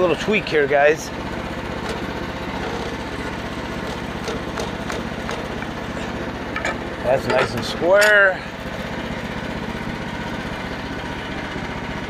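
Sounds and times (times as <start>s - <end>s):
small gasoline engine idling: 0.0s - 12.0s.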